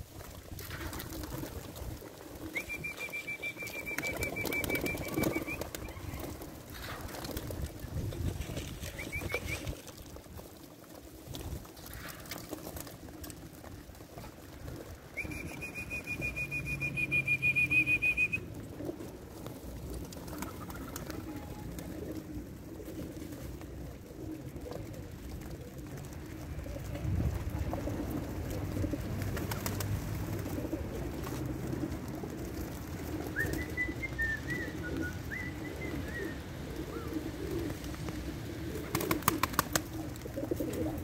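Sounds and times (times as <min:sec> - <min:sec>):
pigeons cooing: 0:00.6 - 0:09.9, 0:13.5 - 0:41.0.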